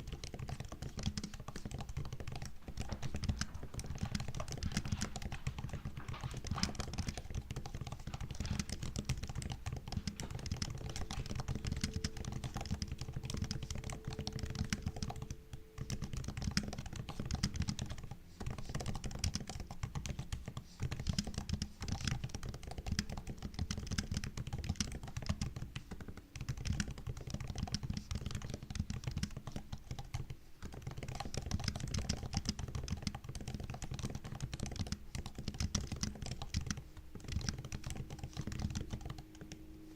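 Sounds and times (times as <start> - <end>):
laptop keyboard typing: 0.0 - 39.9.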